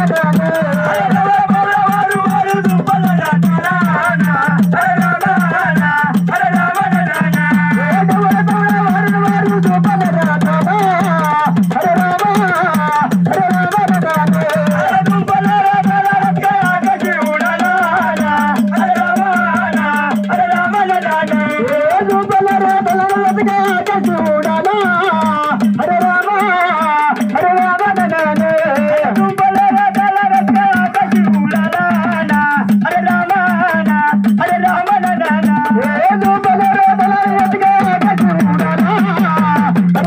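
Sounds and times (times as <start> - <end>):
fast folk drumming: 0.0 - 40.0.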